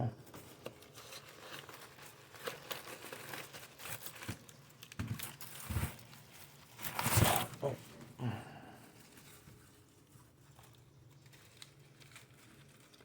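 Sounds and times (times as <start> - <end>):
packaging crinkling: 0.3 - 8.0, 8.9 - 13.0.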